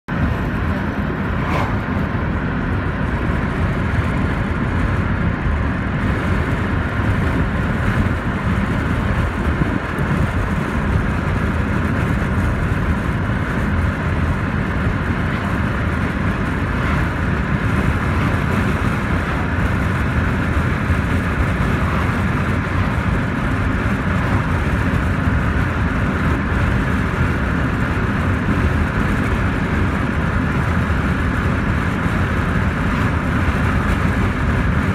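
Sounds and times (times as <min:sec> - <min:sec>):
car road noise rumble: 0:00.0 - 0:34.9.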